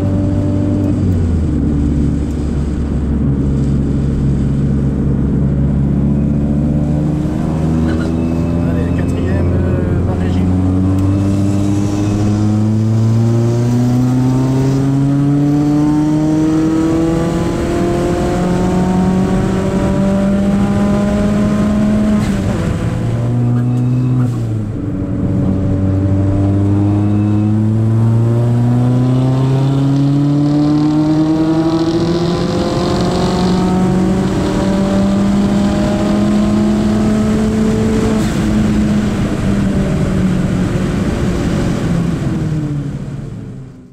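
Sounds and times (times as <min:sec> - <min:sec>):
car engine accelerating hard: 0:00.0 - 0:43.9.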